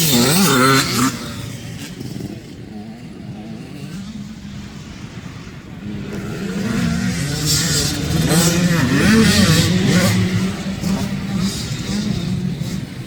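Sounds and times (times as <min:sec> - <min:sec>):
dirt bike engine revving: 0:00.0 - 0:04.6, 0:05.8 - 0:13.0.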